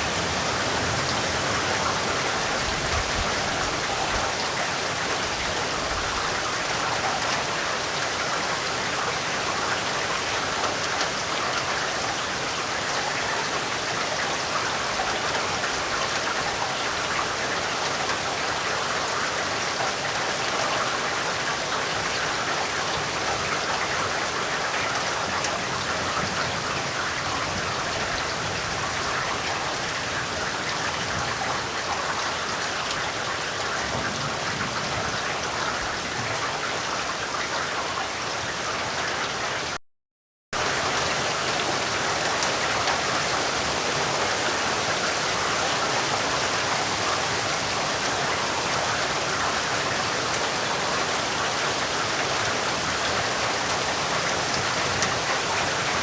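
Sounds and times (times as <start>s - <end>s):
steady rain pattering: 0.0s - 39.8s, 40.6s - 56.0s.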